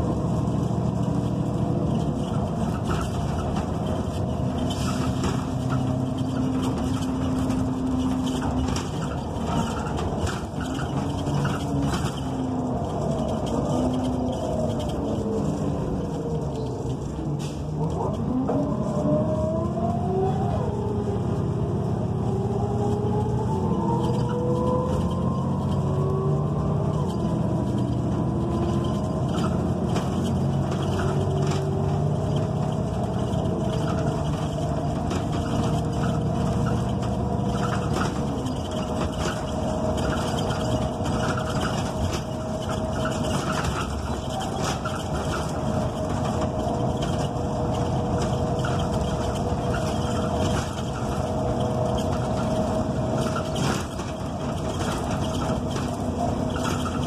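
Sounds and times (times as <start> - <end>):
bus engine hum and whine: 0.0 - 57.0
body rattles: 0.1 - 17.2, 26.9 - 57.0.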